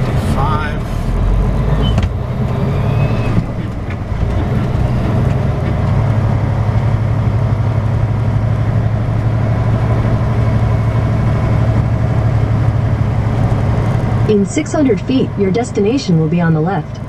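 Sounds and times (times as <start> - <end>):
diesel truck engine droning: 0.0 - 17.0
road noise: 0.0 - 17.0.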